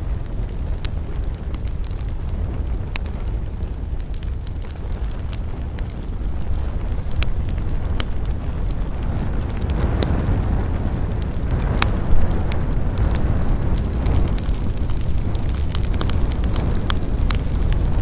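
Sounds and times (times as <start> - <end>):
campfire crackling: 0.0 - 18.0
fire popping: 0.0 - 18.0
low fire rumble: 0.0 - 18.0.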